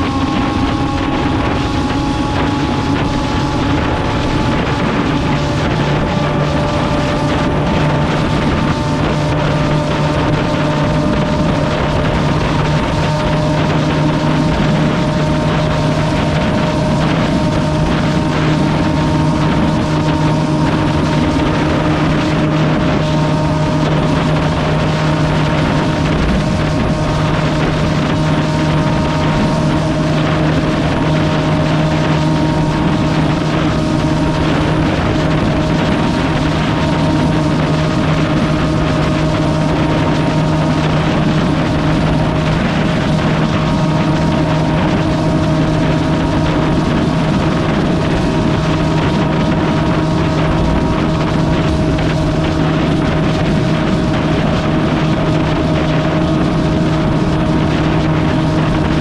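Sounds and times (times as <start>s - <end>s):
vehicle engine drone: 0.0s - 59.0s
wind noise: 0.0s - 59.0s.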